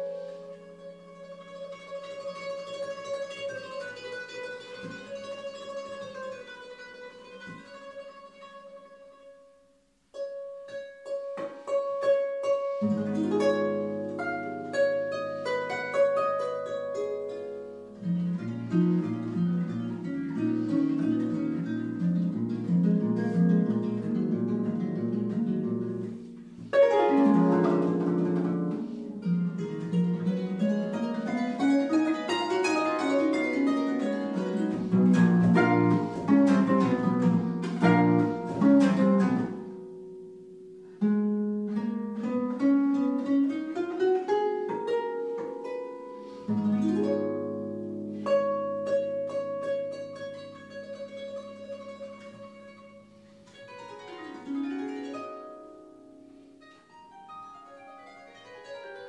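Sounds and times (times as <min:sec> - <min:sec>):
solo harp playing: 0:00.0 - 0:59.0.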